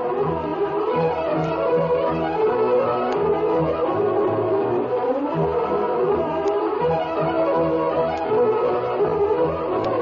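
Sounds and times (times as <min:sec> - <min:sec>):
bowed strings: 0:00.0 - 0:10.0.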